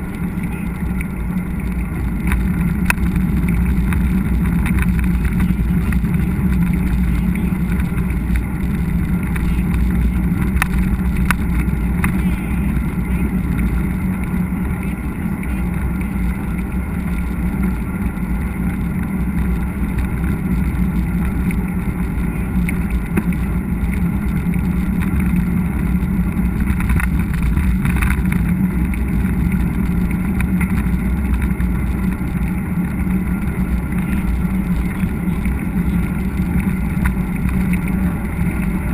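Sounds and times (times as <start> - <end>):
bike rattling over trail: 0.0 - 38.9
wind and riding rumble: 0.0 - 38.9.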